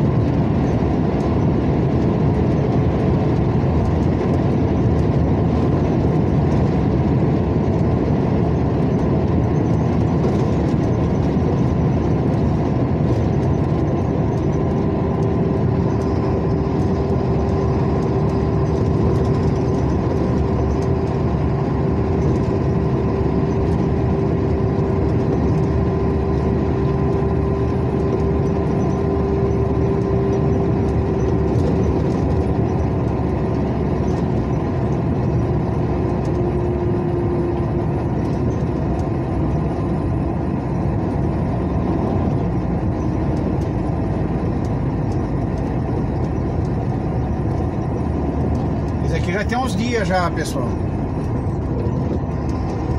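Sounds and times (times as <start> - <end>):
vehicle engine and road noise: 0.0 - 52.9.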